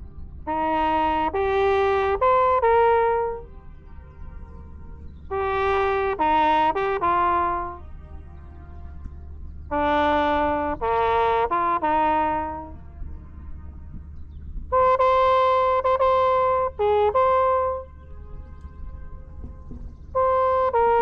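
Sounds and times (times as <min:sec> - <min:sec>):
steady low hum: 0:00.0 - 0:21.0
trumpet playing held notes: 0:00.0 - 0:21.0.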